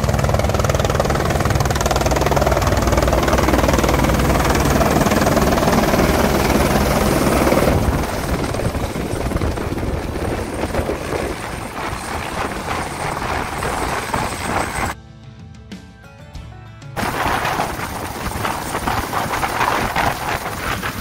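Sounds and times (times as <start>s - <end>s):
helicopter rotor and turbine: 0.0s - 15.0s, 17.0s - 21.0s.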